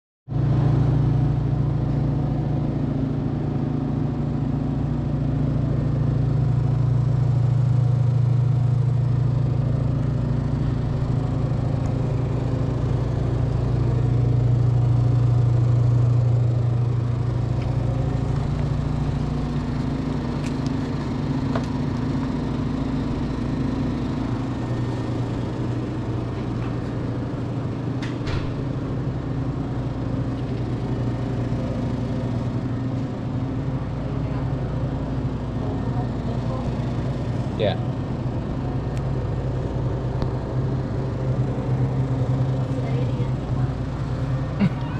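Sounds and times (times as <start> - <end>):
vending machine humming: 0.3 - 44.9.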